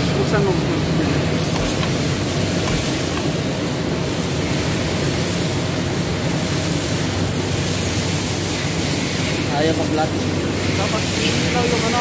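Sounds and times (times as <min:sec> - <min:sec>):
high-pressure water pump rushing: 0:01.2 - 0:12.0.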